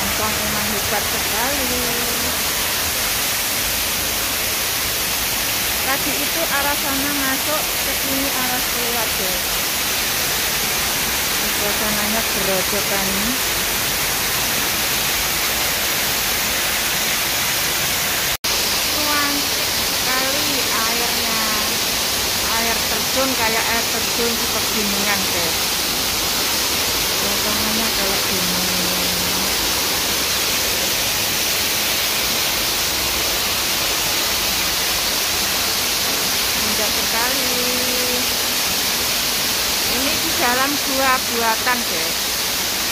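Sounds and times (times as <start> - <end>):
waterfall splashing into pool: 0.0 - 42.9.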